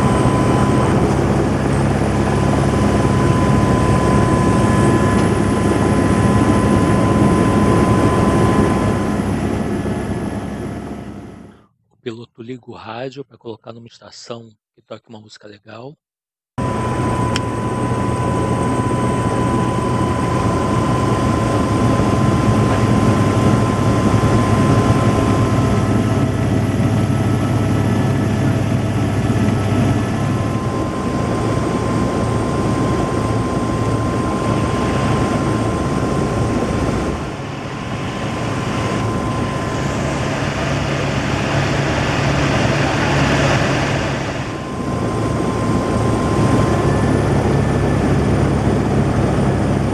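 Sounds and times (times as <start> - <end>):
helicopter rotor and engine: 0.0 - 11.6, 16.6 - 49.9.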